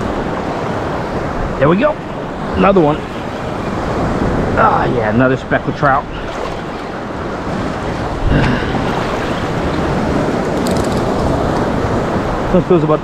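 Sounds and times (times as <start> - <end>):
wind buffeting microphone: 0.0 - 12.6
surf washing around legs: 0.0 - 13.0.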